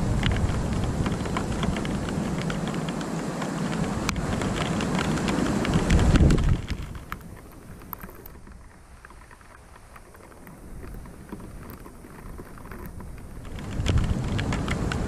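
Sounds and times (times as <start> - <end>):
rain drops ticking: 0.0 - 15.0
thunder rumble: 0.0 - 15.0.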